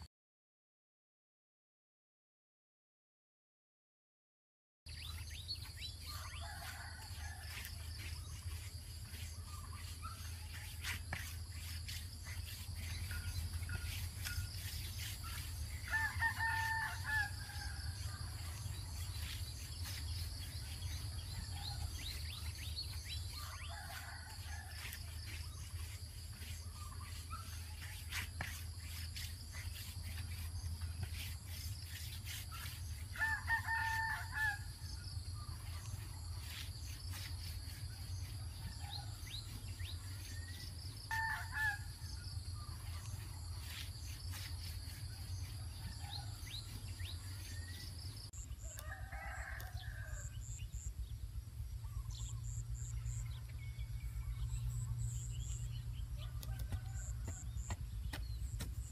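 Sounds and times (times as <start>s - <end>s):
distant roosters crowing: 5.6s - 51.1s, 51.8s - 58.9s.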